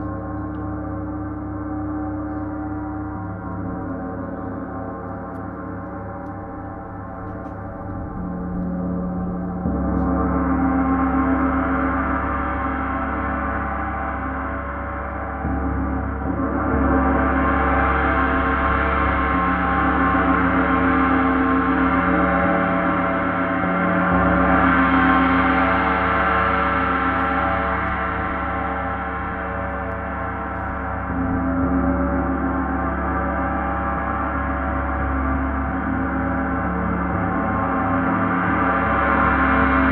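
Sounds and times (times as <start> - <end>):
gong played with soft mallets: 0.0 - 39.9.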